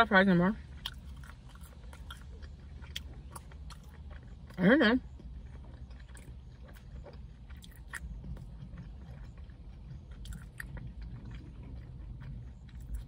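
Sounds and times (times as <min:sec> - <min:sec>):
low hum: 0:00.0 - 0:13.0
person chewing food: 0:00.0 - 0:13.0.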